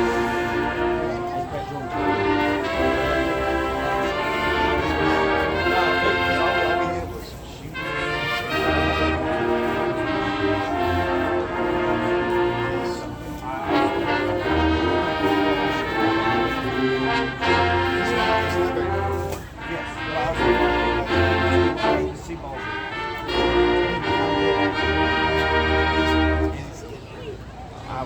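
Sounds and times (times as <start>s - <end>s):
marching band brass chords: 0.0s - 26.9s.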